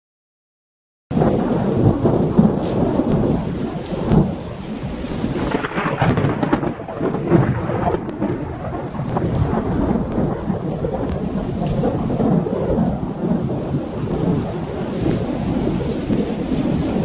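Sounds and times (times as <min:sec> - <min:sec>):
steady rain: 0:01.1 - 0:17.0
thunder rumbling: 0:01.1 - 0:17.0.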